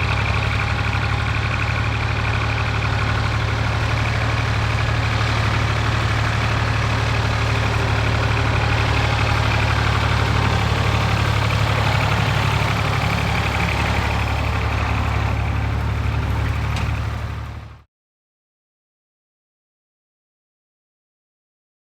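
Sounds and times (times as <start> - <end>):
tractor engine humming: 0.0 - 17.8.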